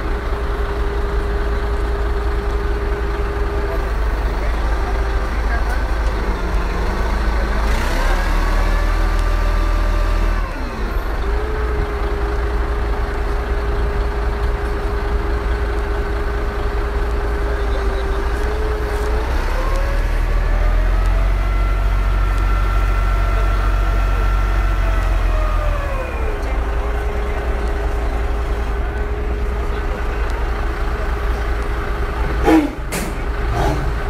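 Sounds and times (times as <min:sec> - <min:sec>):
crane engine running under load: 0:00.0 - 0:34.0.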